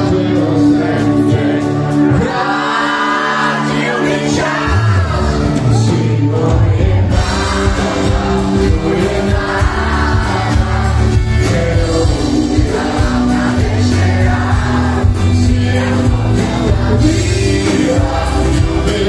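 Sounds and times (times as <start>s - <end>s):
live pop band: 0.0s - 19.0s
male vocals: 0.0s - 19.0s.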